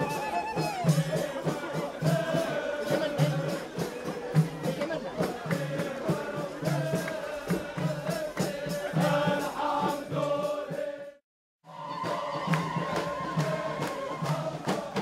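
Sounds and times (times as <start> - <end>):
frame drums and tambourines: 0.0 - 15.0
men chanting together: 0.1 - 15.0.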